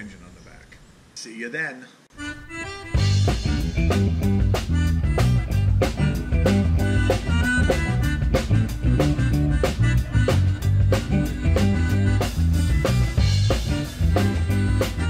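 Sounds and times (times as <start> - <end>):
upbeat music with drums and bass: 2.2 - 15.0.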